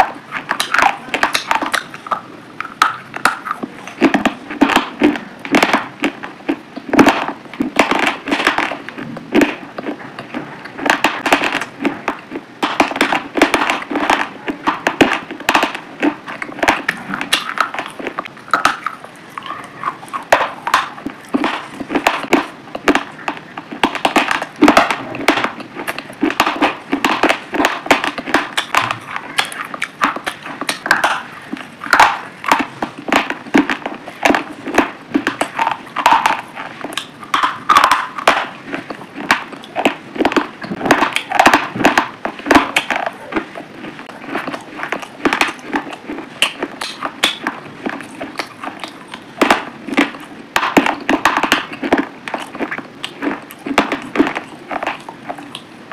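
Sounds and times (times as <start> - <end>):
chewing crunchy fruit: 0.0 - 55.9.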